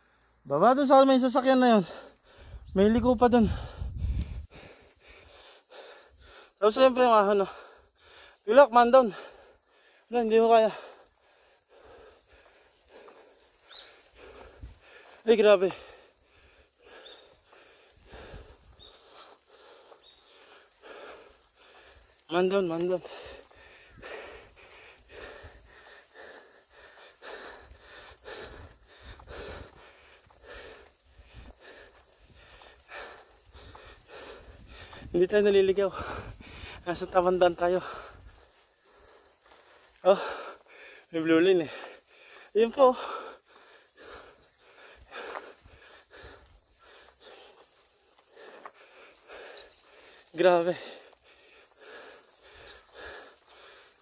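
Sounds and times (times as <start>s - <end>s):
heavy labored breathing: 1.6s - 54.0s
person panting hard: 1.7s - 54.0s.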